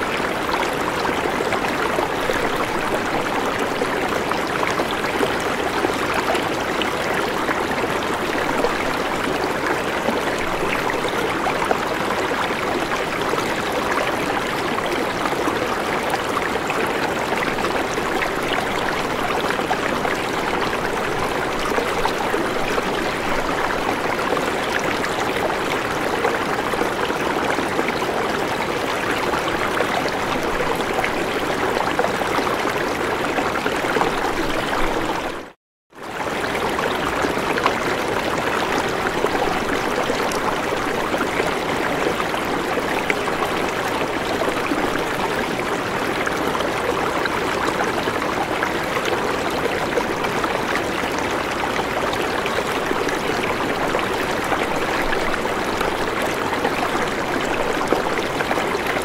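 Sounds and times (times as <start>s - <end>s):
stream splashing over rocks: 0.0s - 59.0s.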